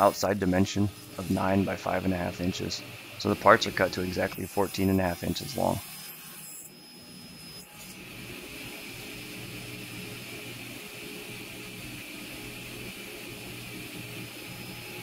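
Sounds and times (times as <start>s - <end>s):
table saw whirring: 0.0s - 15.0s.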